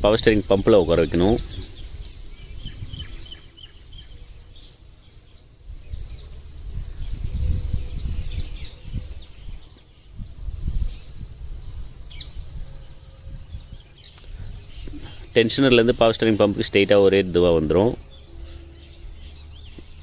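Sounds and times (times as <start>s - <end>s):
birds chirping: 0.0s - 20.0s
insects: 0.0s - 20.0s.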